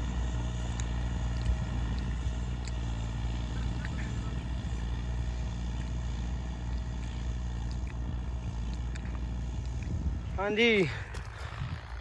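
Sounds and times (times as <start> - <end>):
tractor engine humming: 0.0 - 12.0.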